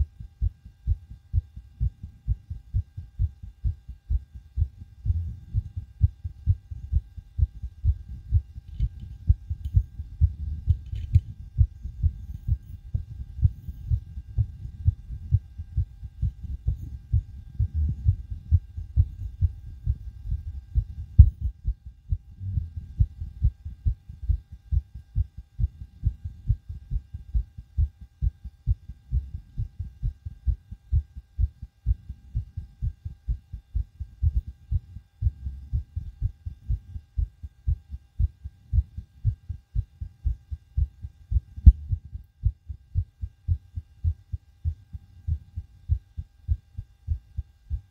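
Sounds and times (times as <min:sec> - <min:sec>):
fast heartbeat thumping: 0:00.0 - 0:47.9.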